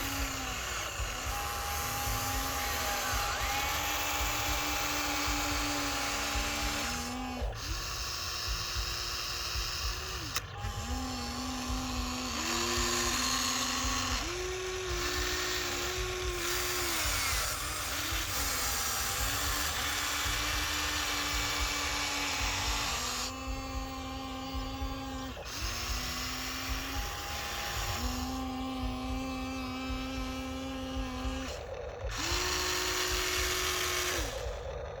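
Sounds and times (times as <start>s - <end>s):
toy motor and gears whining: 0.0s - 35.0s.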